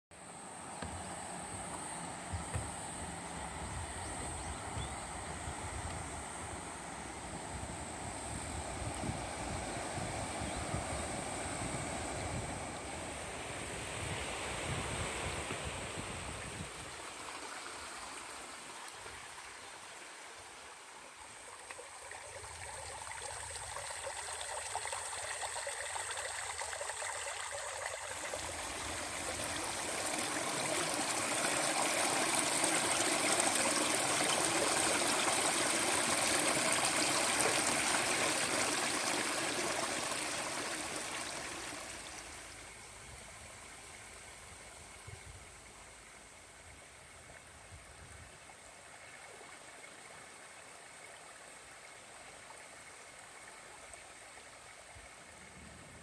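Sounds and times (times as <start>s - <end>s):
stream water rushing and splashing: 6.3s - 56.0s.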